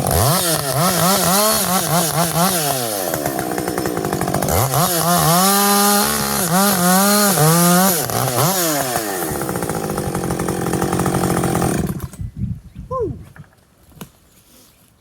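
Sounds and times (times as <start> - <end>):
chainsaw cutting wood: 0.0 - 12.2.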